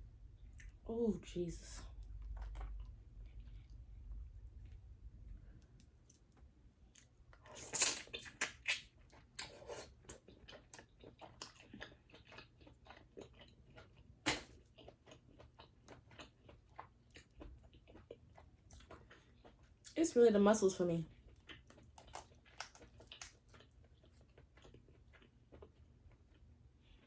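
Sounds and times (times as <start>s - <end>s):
wet chewing: 1.8s - 4.9s, 5.6s - 20.0s, 21.1s - 27.0s.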